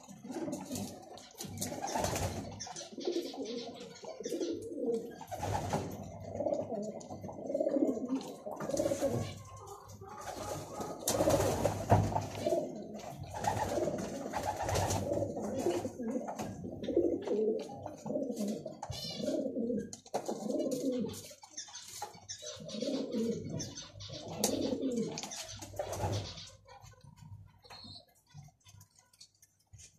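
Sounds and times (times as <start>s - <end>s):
pigeon cooing: 0.0s - 28.2s.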